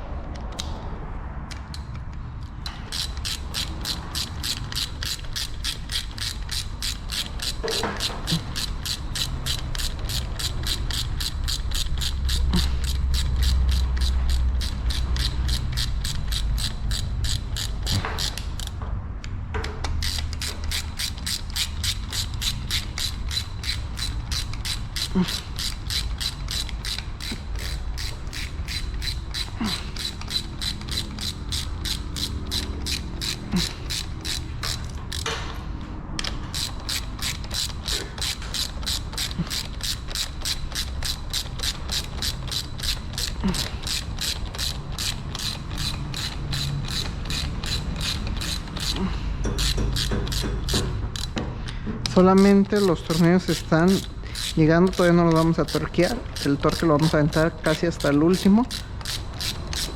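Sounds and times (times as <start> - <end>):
ratchet wrench clicking: 0.3 - 0.8, 1.4 - 18.8, 19.6 - 59.9.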